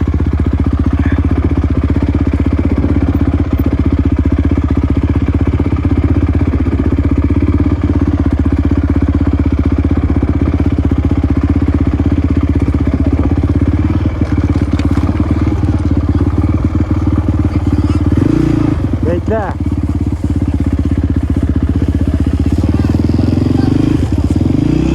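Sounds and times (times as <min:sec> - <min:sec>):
dirt bike engine idling: 0:00.0 - 0:24.9.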